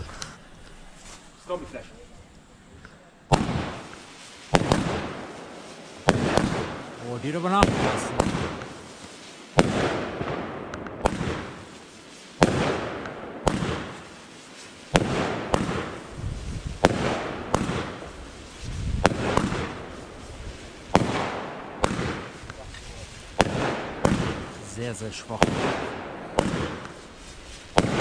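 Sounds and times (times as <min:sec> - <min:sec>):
firework reports: 0:00.0 - 0:28.0
rising firework hiss: 0:00.0 - 0:28.0.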